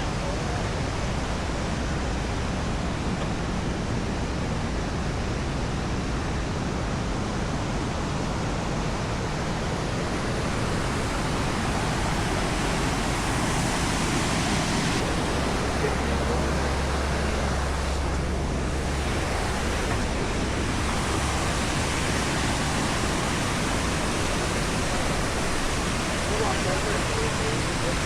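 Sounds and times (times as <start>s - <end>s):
waterfall rushing over rock: 0.0s - 28.0s.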